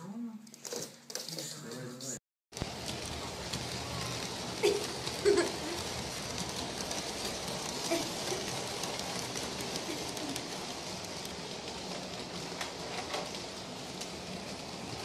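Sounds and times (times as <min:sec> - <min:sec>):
wheels clattering on rails: 0:02.5 - 0:15.0
toy train motor whirring: 0:02.6 - 0:15.0.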